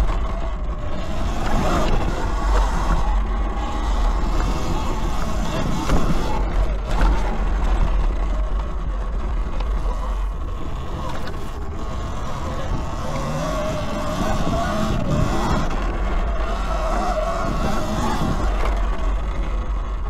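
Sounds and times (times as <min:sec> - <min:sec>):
electric motor whining: 0:00.0 - 0:08.7, 0:09.4 - 0:20.0
wind rumbling on microphone: 0:00.0 - 0:20.0.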